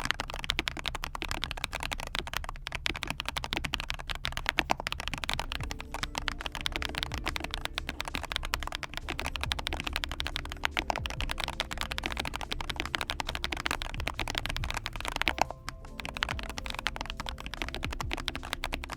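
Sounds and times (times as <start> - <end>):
typing on mechanical keyboard: 0.0 - 18.9.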